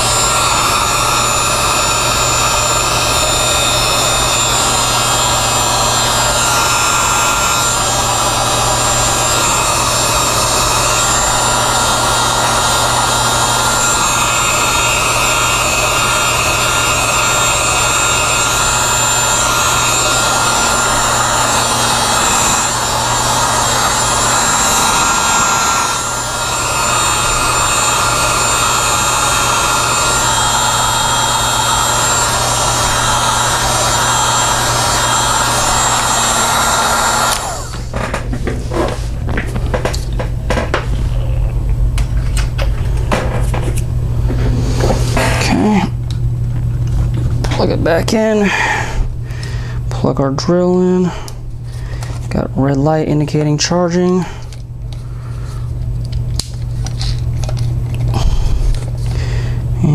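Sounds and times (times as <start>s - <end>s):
heat gun blowing: 0.0s - 41.4s, 42.0s - 46.2s, 47.4s - 50.0s.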